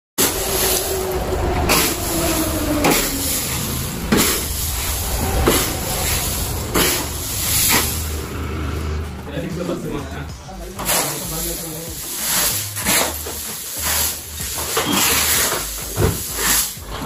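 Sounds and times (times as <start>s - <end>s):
wooden board scraping concrete: 0.2s - 8.3s, 10.8s - 17.0s.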